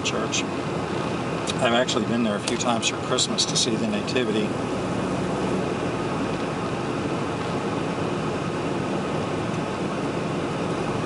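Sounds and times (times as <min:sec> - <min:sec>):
road noise: 0:00.0 - 0:11.0
truck engine: 0:00.0 - 0:11.0.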